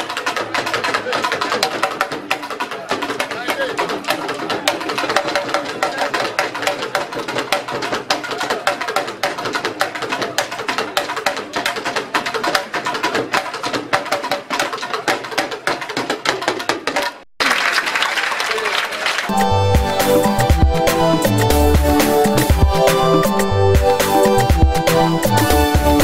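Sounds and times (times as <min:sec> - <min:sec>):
talking drums fast rhythm: 0:00.0 - 0:17.5, 0:19.3 - 0:26.0.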